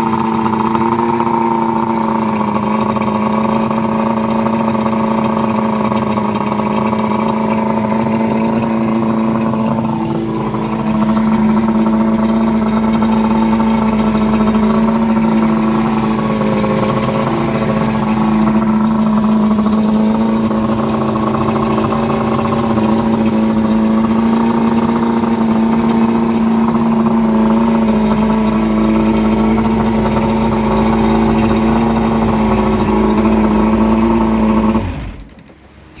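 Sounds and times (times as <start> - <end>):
outboard motor running: 0.0 - 36.0.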